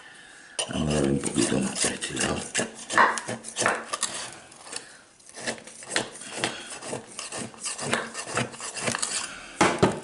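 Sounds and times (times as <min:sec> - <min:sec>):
knife scraping inside pot: 0:00.6 - 0:09.4.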